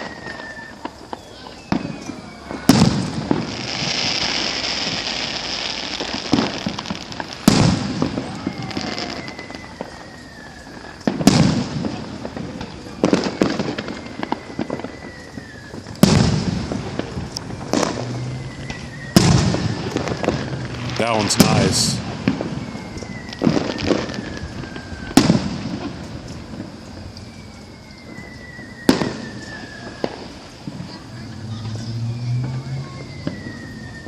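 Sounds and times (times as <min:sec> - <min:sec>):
falling whistles: 0:00.0 - 0:34.0
fireworks booms: 0:00.0 - 0:34.0
fireworks crackling: 0:00.0 - 0:34.0.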